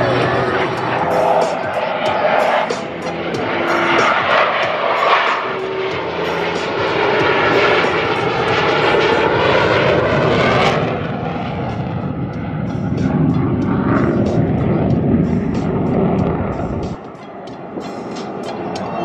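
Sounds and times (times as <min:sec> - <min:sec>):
jet engine roaring: 0:00.0 - 0:19.0.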